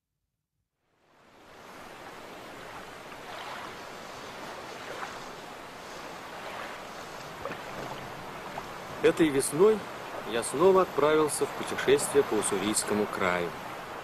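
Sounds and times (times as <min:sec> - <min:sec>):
river water rushing: 0:01.0 - 0:14.0.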